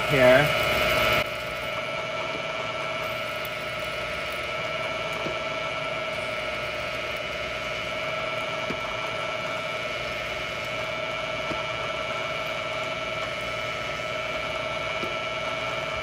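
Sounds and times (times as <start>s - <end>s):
milling machine spindle whine: 0.0s - 16.0s.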